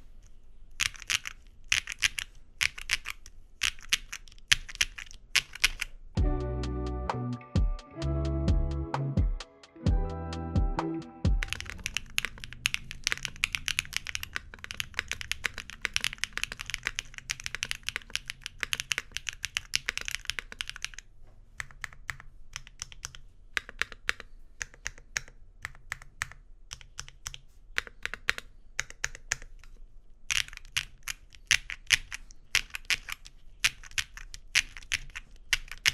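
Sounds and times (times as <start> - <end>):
mechanical keyboard typing: 0.8 - 6.0, 11.3 - 21.0, 21.6 - 35.9.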